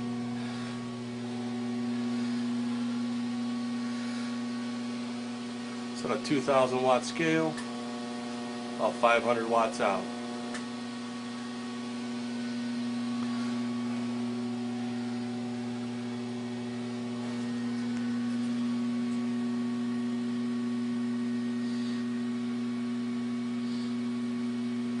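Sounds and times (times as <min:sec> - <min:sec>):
electrical hum from power supply: 0:00.0 - 0:25.0.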